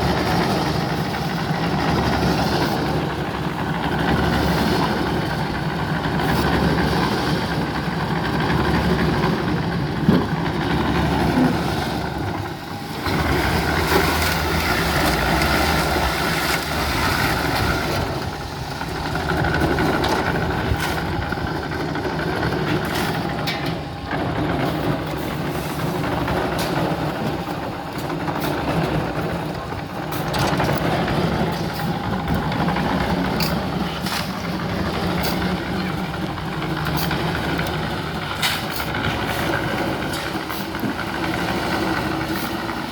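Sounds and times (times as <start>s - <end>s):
construction machinery engine running: 0.0s - 42.9s.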